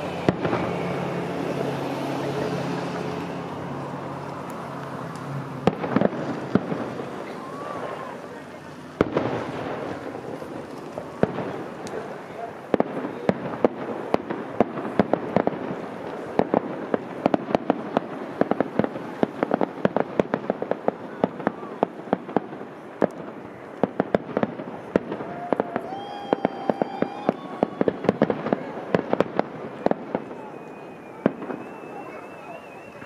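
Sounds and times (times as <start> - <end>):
fireworks popping and banging: 0.0 - 33.0.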